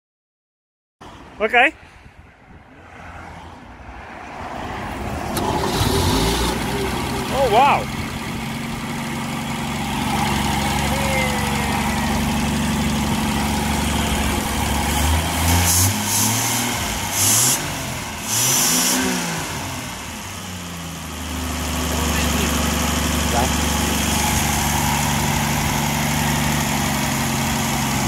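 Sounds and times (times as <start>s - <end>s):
car engine idling and revving: 3.2s - 28.0s.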